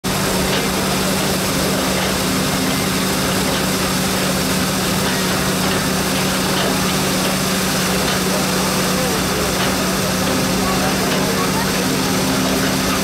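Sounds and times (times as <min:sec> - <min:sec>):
threshing machine running: 0:00.0 - 0:13.0.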